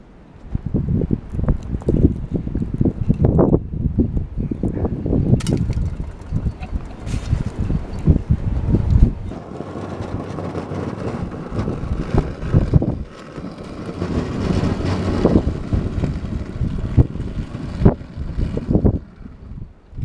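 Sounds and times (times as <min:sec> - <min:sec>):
wind buffeting microphone: 0:00.4 - 0:20.0.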